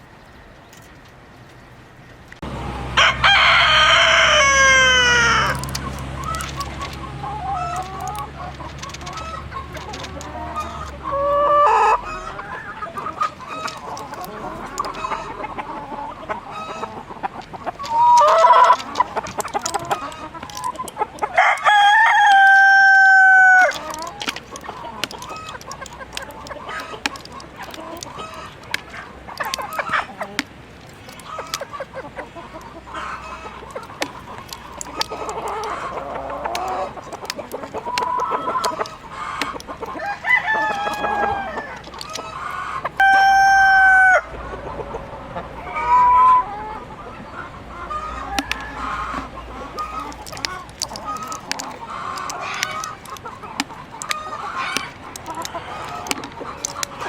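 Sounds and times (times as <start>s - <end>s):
hens clucking: 0.0s - 57.0s
roosters crowing: 2.4s - 57.0s.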